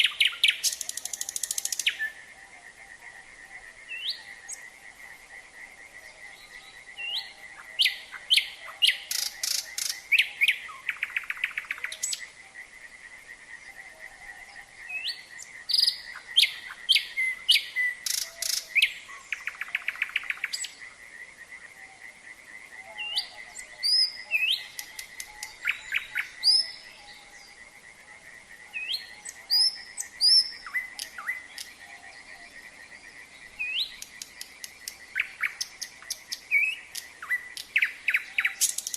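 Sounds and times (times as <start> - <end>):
frogs trilling chorus: 0.0 - 38.9
nightingale singing: 0.0 - 38.9.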